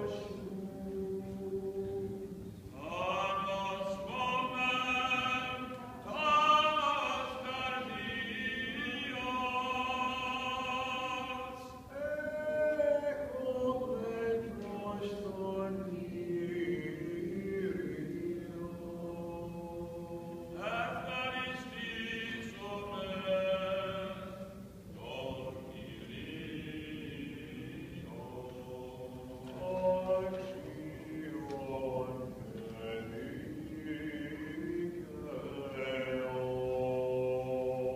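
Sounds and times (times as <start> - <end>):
voices chanting long held notes: 0.0 - 37.9.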